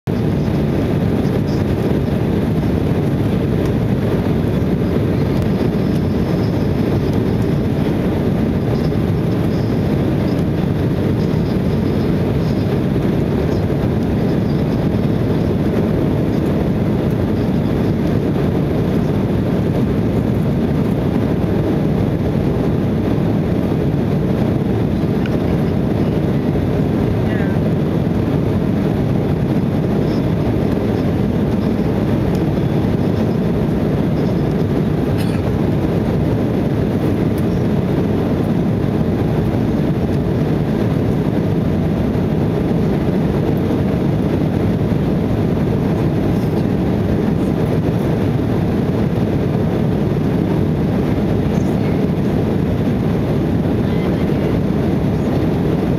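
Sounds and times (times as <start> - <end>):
airliner cabin roar: 0.0 - 55.9.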